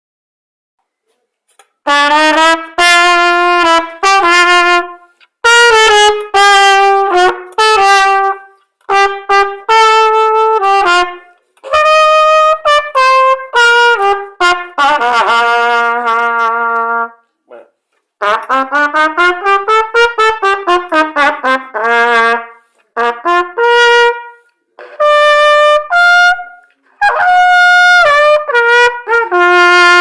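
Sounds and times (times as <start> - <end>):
trumpet playing held notes: 1.8 - 17.2, 18.2 - 30.0.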